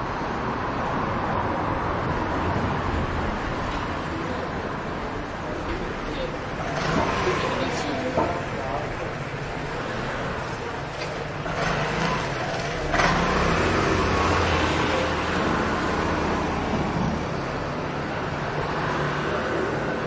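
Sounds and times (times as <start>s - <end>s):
street background: 0.0s - 20.0s.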